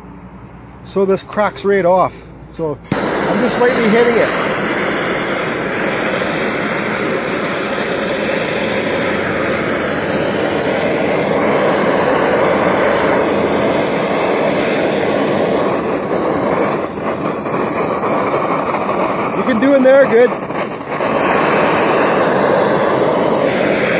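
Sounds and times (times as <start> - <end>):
propane torch burning: 0.9 - 23.9.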